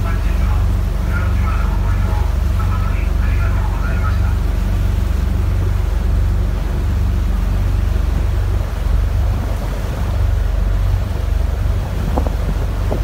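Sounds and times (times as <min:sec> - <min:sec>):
ferry engine droning: 0:00.0 - 0:13.0
water rushing along hull: 0:00.0 - 0:13.0
wind buffeting microphone: 0:00.0 - 0:13.0.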